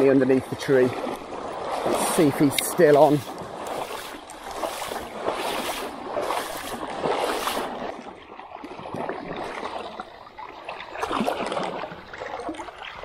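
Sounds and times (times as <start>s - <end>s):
river water sloshing around legs: 0.0s - 13.0s.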